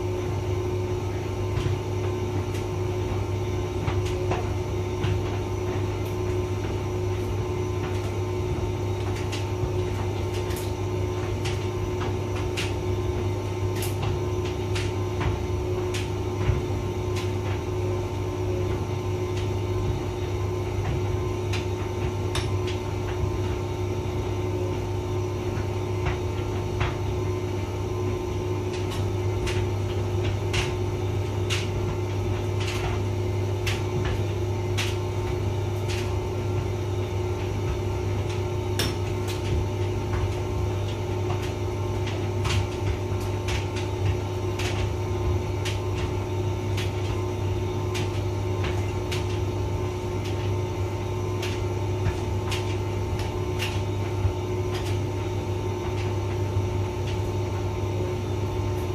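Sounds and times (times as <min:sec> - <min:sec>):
dryer whine: 0:00.0 - 0:58.9
tumble dryer humming: 0:00.0 - 0:58.9.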